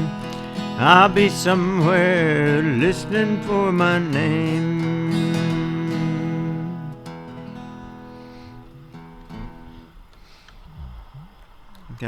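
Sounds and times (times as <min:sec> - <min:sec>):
acoustic guitar chord ringing: 0:00.0 - 0:10.0.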